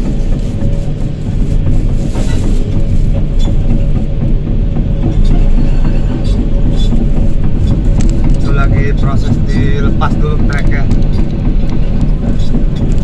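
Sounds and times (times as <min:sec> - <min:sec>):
diesel engine rumbling: 0:00.0 - 0:13.0
steel track clatter: 0:00.0 - 0:13.0.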